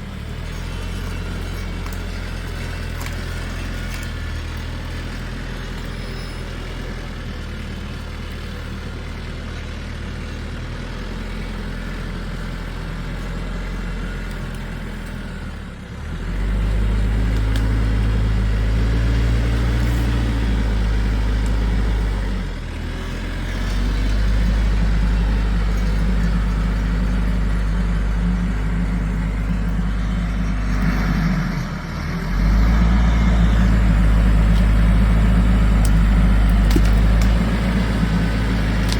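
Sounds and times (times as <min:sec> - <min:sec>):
large engine running: 0:00.0 - 0:38.9.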